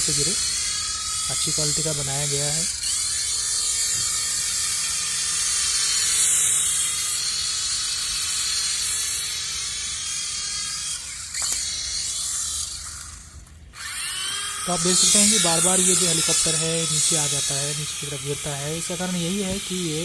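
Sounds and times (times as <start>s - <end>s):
toy helicopter rotors whirring: 0.0s - 20.0s.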